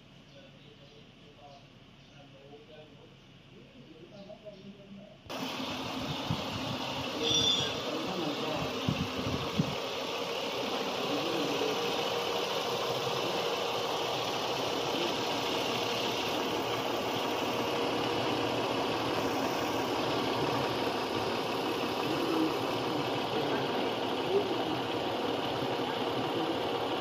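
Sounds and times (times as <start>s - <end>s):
faint steady whine: 0.0s - 27.0s
car engine idling: 5.3s - 27.0s.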